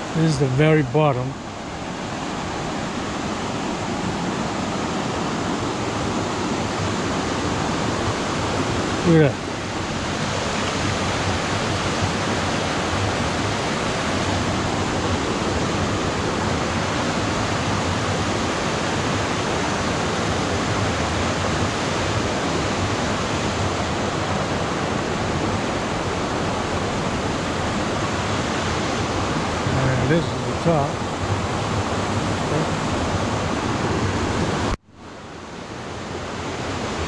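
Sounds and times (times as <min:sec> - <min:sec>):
waterfall rushing over boulders: 0:00.0 - 0:37.0.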